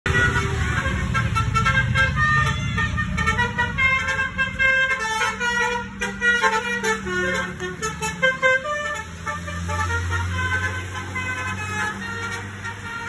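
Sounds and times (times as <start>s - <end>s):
bus engine rumble: 0.0s - 13.0s
bus horn playing a tune: 0.0s - 13.0s
traffic: 0.0s - 13.0s.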